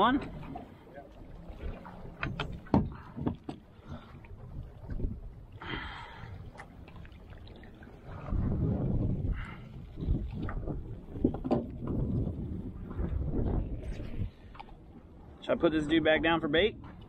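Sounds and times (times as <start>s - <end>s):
water sloshing against boat: 0.0s - 17.0s
wind on microphone: 1.3s - 15.3s.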